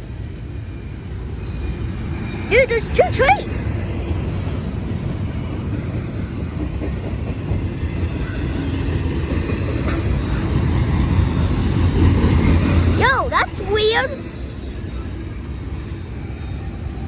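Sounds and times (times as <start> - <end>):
train rolling on tracks: 0.0 - 17.0.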